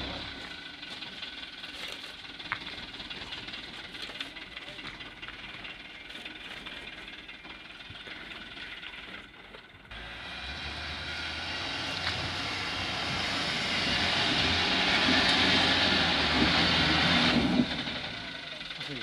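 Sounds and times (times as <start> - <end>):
truck diesel engine under load: 0.0 - 19.0.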